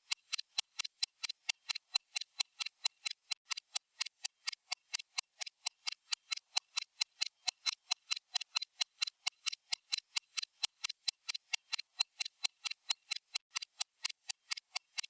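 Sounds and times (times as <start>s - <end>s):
stopwatch ticking: 0.0s - 15.0s.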